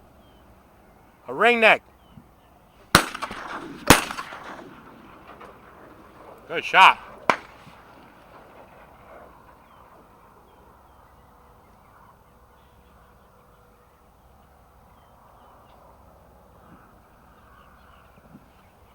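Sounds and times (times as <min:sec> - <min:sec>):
faint bird calls: 0:00.0 - 0:18.9.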